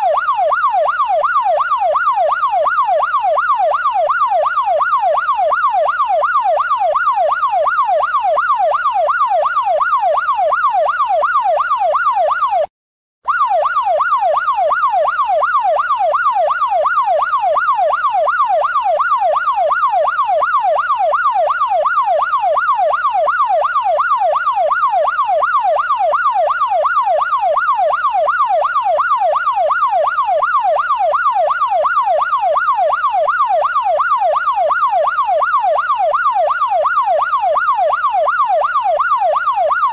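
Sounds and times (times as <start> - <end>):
police siren yelping: 0.0 - 12.7, 13.3 - 39.9.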